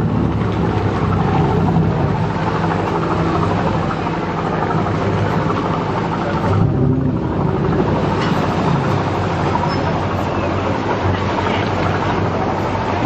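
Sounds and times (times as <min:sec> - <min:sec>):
boat engine humming: 0:00.0 - 0:13.0
broad noise wash: 0:00.0 - 0:13.0.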